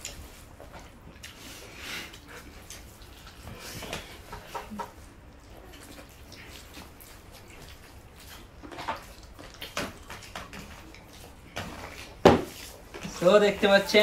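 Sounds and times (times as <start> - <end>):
chewing: 0.0 - 13.3
hands mixing rice on steel plates: 0.0 - 14.0.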